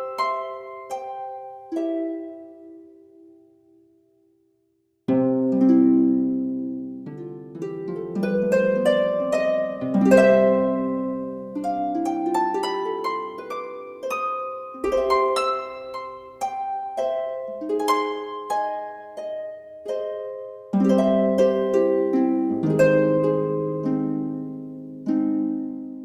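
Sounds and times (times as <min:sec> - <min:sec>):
plucked-string arpeggio music: 0:00.0 - 0:03.3, 0:05.1 - 0:26.0.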